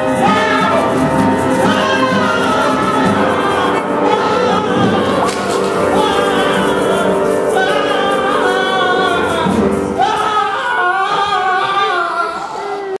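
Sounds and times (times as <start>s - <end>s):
instrumental accompaniment: 0.0s - 12.7s
ensemble singing together: 0.0s - 13.0s.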